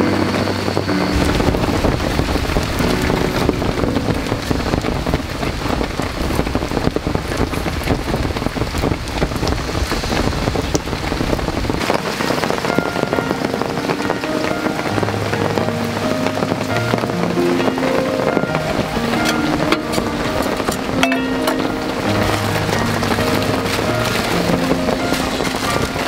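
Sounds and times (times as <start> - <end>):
heavy rain on a tarp: 0.0 - 26.0.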